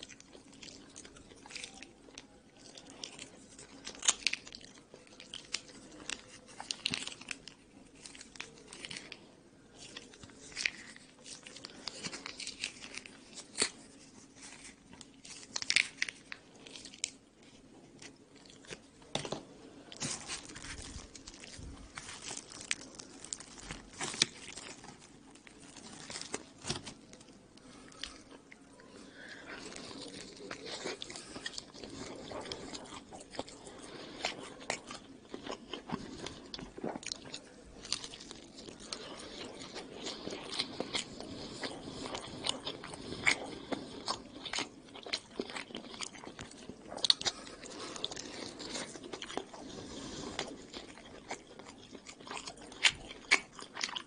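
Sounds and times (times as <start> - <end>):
crunching pizza crust: 0.0 - 54.0.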